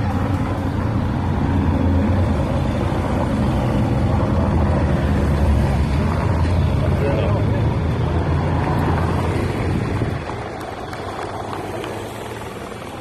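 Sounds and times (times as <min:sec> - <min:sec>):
motorcycles and cars driving past: 0:00.0 - 0:13.0.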